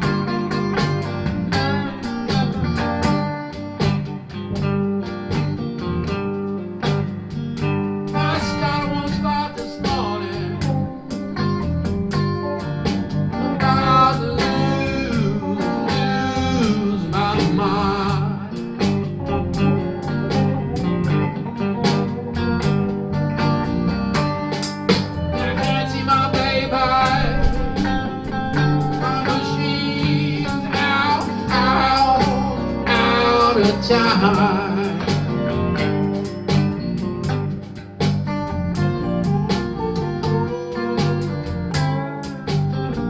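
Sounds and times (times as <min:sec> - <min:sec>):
bent wavering lead guitar notes: 0:00.0 - 0:43.0
blues band playing: 0:00.0 - 0:43.0.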